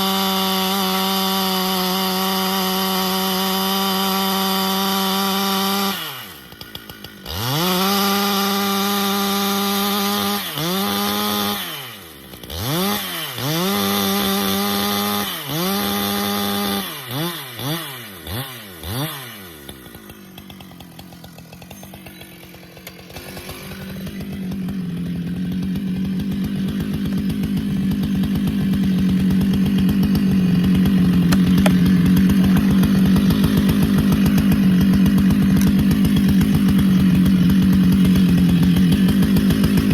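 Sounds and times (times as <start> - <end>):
chainsaw cutting wood: 0.0 - 39.9
chainsaw revving: 0.0 - 39.9.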